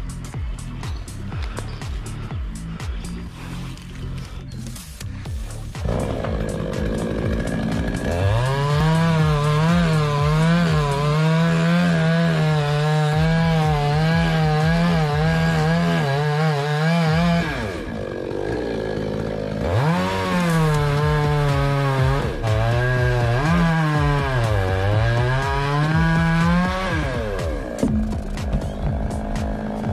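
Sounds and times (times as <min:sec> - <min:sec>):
chainsaw cutting wood: 0:05.5 - 0:29.9.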